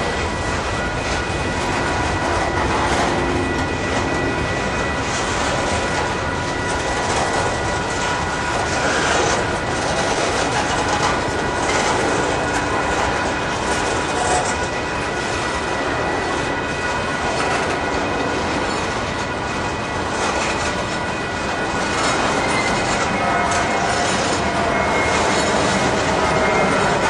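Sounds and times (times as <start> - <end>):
clickety-clack over rail joints: 0.0 - 27.0
train wheels rumbling on rail: 0.0 - 27.0.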